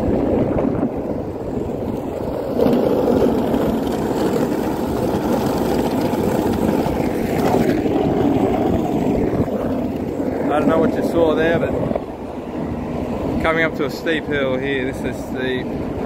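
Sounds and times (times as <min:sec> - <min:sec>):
skateboard wheels rumbling on asphalt: 0:00.0 - 0:16.0.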